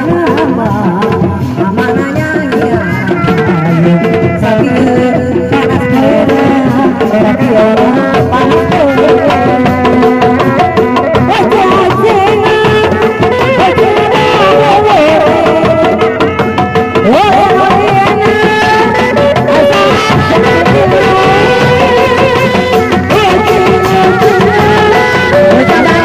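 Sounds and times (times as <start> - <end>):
barrel drum beat: 0.0 - 26.0
ornamented melody line: 0.0 - 26.0.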